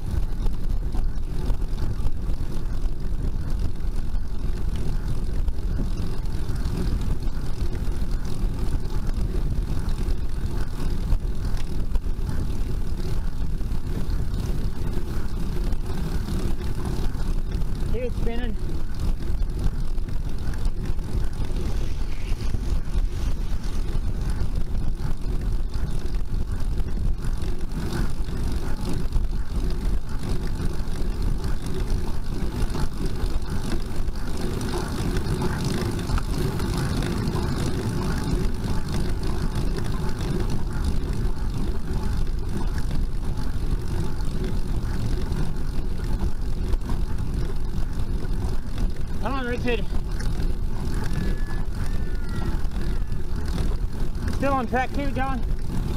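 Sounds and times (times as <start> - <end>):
wind and road noise rumble: 0.0 - 55.9.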